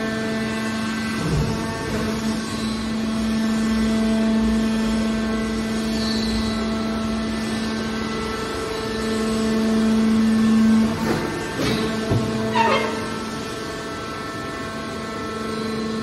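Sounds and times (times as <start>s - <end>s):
hydraulic baler humming: 0.0s - 16.0s.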